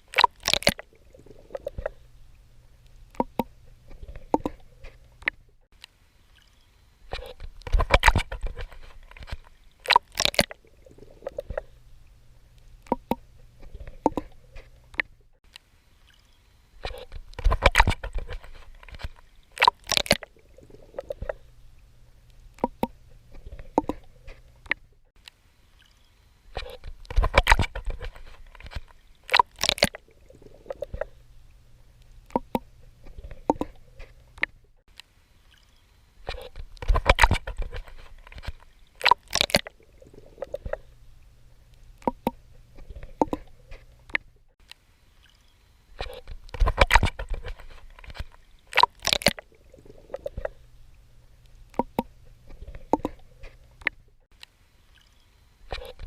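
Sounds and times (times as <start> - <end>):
swimming strokes splashing water: 0.0 - 5.3, 6.2 - 15.0, 15.9 - 24.7, 25.6 - 34.4, 35.3 - 44.2, 45.0 - 53.8.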